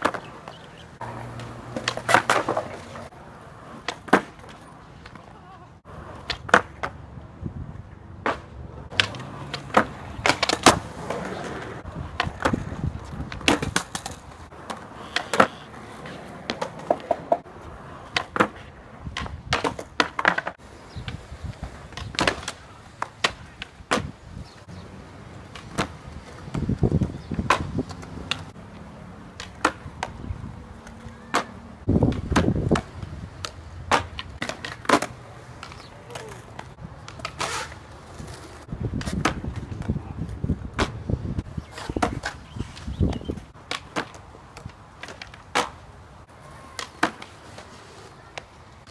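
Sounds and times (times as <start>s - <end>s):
skateboard deck clacks: 0.0s - 5.4s, 6.1s - 7.0s, 8.2s - 17.5s, 18.1s - 24.2s, 25.4s - 40.0s, 40.7s - 45.8s, 46.5s - 48.8s
skateboard wheels rolling on concrete: 0.0s - 48.9s.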